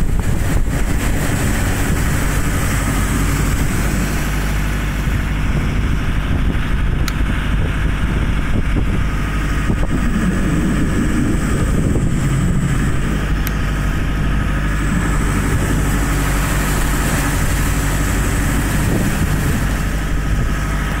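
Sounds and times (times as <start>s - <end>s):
boat diesel engine running: 0.0s - 21.0s
propeller churning water: 0.0s - 21.0s.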